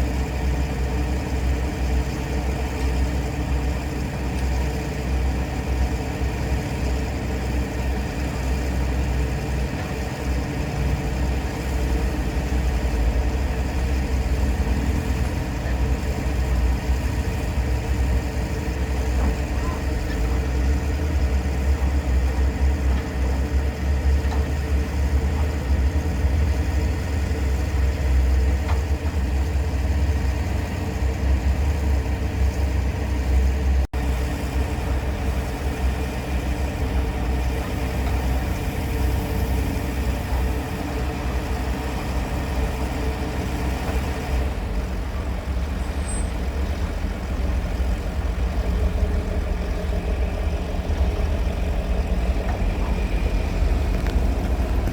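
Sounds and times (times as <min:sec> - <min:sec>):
heavy vehicle engine rumbling: 0:00.0 - 0:54.9.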